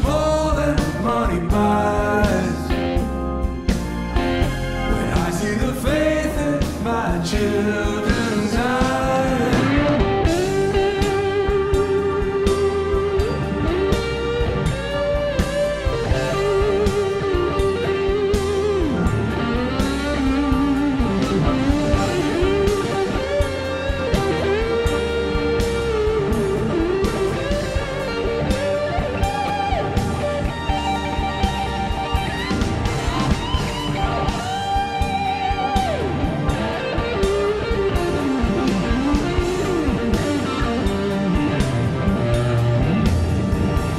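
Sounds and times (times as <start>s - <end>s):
electric guitar over band: 0.0s - 43.9s.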